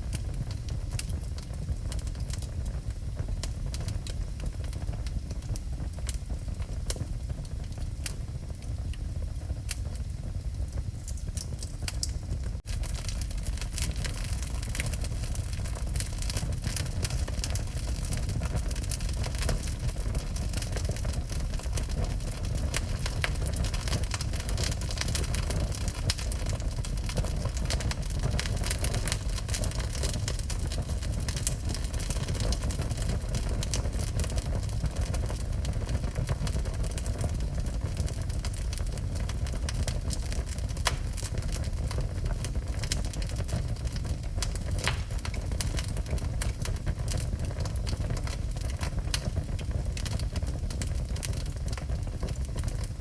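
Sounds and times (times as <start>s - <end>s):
low rumble of flames: 0.0s - 53.0s
wood fire crackling and popping: 0.0s - 53.0s.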